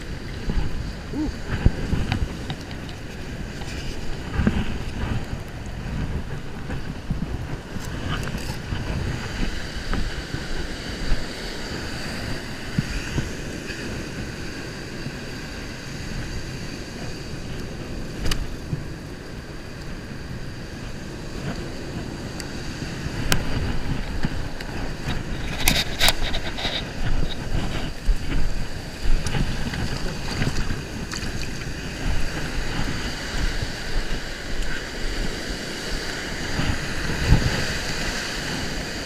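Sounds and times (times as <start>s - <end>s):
surf washing: 0.0s - 39.0s
wind buffeting microphone: 0.0s - 39.0s.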